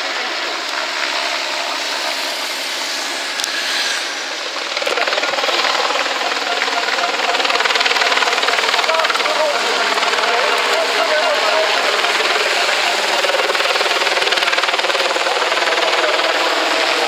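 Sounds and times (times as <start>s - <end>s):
bunch of cyclists approaching: 0.0s - 17.0s
motorcycle passing: 1.3s - 17.0s.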